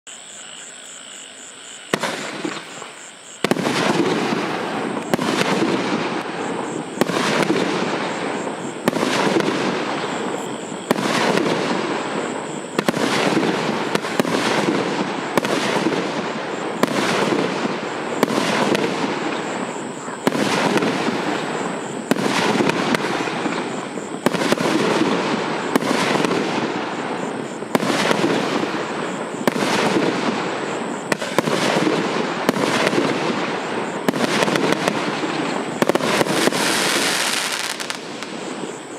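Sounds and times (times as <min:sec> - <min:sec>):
fireworks reports with crackling: 0:01.8 - 0:38.9.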